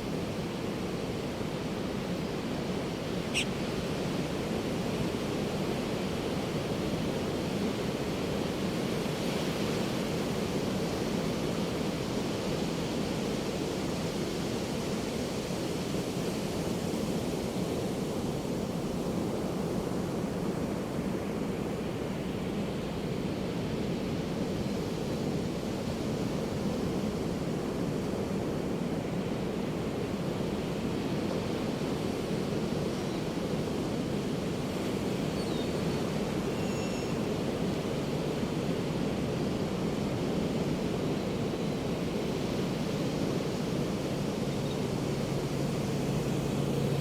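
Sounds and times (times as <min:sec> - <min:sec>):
ocean waves breaking on a beach: 0:00.0 - 0:47.0.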